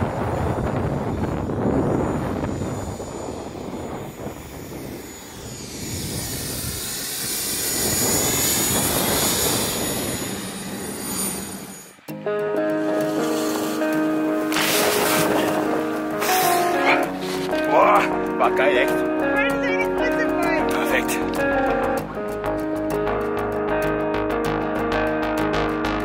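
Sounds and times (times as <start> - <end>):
helicopter running: 0.0 - 24.1.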